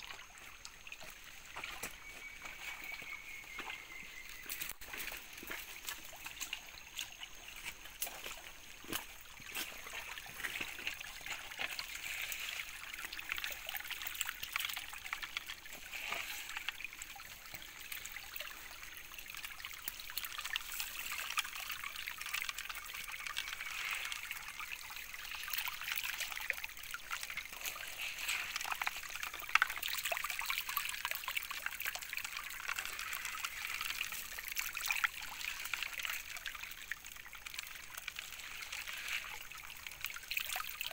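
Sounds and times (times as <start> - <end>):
water running through sluice box: 0.0 - 40.9.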